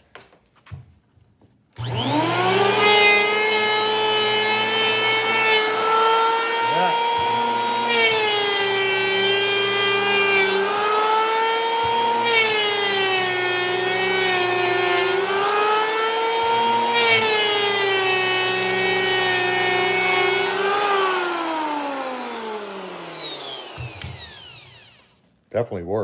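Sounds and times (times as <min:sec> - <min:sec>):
electric planer motor whine: 0:01.8 - 0:25.2
planer cutting hiss: 0:01.8 - 0:25.2.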